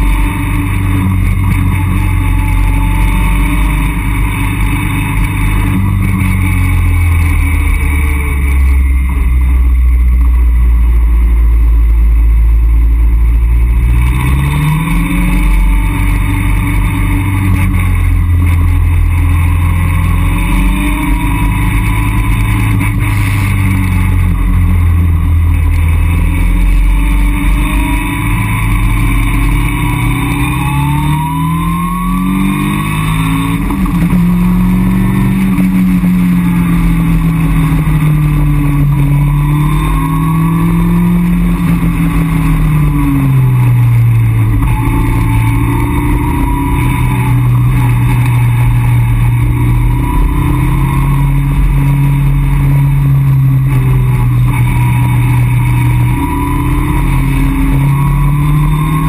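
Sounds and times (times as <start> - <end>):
car engine revving: 0.0 - 59.0
wind and road noise: 0.0 - 59.0.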